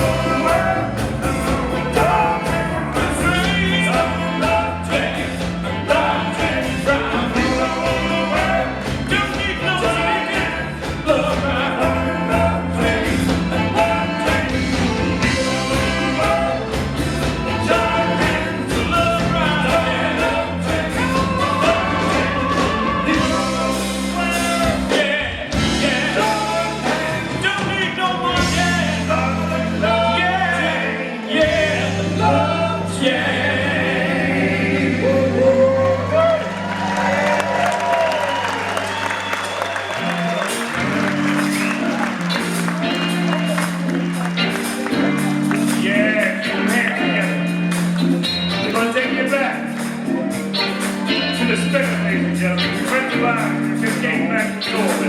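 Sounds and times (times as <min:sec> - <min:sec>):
person singing: 0:00.0 - 0:36.4, 0:40.4 - 0:55.0
live disco-soul band: 0:00.0 - 0:55.0.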